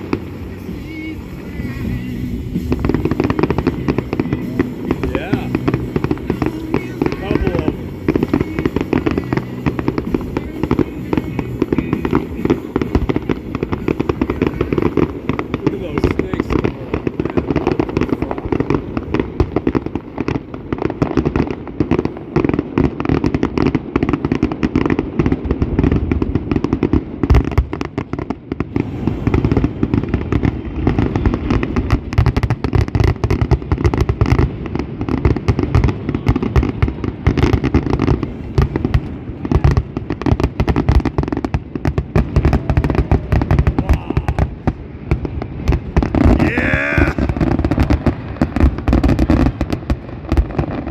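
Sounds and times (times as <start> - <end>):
fireworks bangs and crackles: 0.0 - 50.9.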